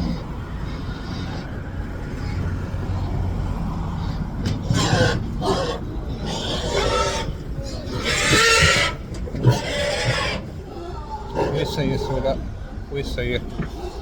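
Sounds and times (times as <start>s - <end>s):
idling lorry rumble: 0.0s - 14.0s
pigs squealing: 0.0s - 14.0s.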